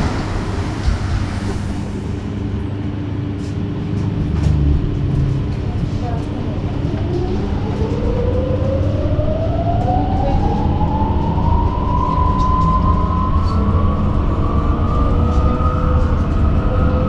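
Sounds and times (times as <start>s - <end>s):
low rumble of bus ride: 0.0s - 17.0s.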